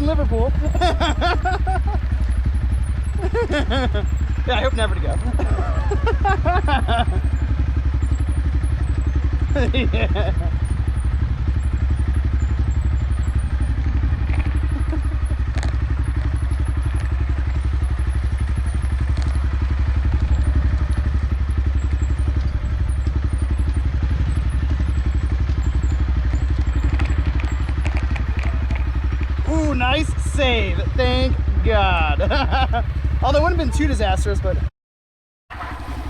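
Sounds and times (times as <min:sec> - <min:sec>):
motorcycle engine running: 0:00.0 - 0:34.7, 0:35.5 - 0:36.0.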